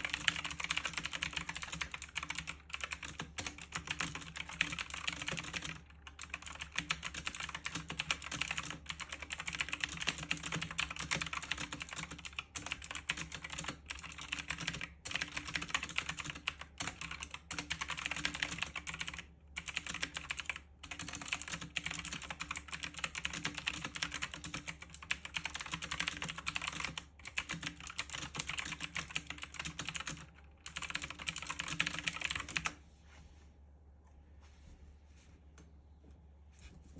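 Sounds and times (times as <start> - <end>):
fast keyboard typing: 0.0 - 32.8.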